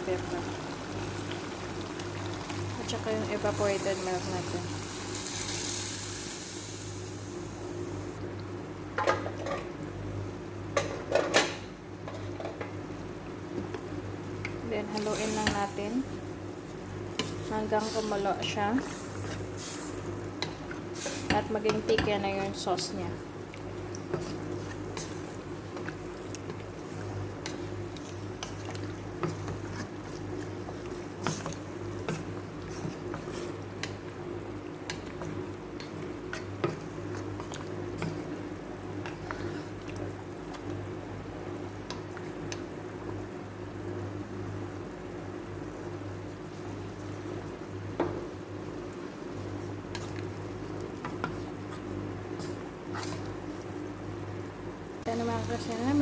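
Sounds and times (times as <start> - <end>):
stew simmering and bubbling: 0.0 - 56.0.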